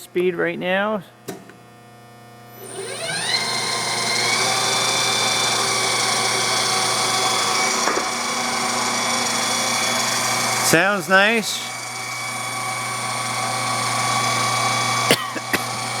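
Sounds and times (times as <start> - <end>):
drill press motor whining: 2.5 - 16.0.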